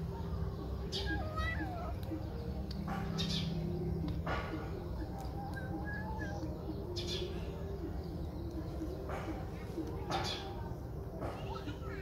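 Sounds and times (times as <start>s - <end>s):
birds chirping and cooing: 0.0s - 12.0s.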